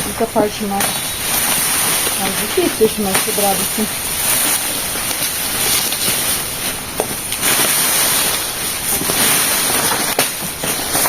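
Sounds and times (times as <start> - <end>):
high-pitched hiss: 0.0 - 11.0
leaves rustling: 0.0 - 11.0
foliage snapping: 0.1 - 11.0.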